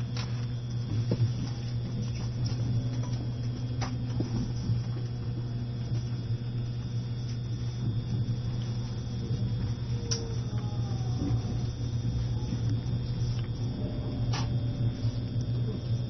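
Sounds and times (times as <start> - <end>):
electric train hum: 0.0 - 16.0
faint high whine: 0.0 - 16.0.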